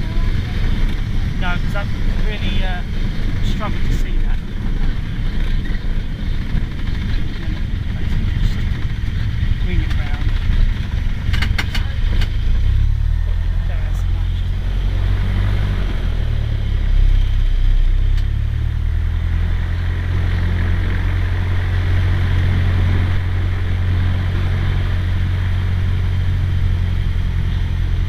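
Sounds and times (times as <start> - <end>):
propeller plane engine drone: 0.0 - 28.0.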